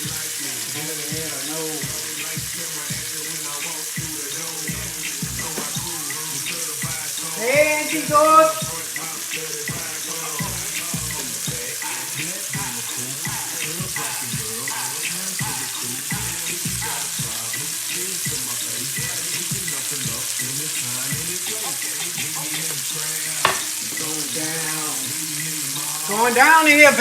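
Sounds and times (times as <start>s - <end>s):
background music: 0.0s - 27.0s
food sizzling in frying pan: 0.0s - 27.0s.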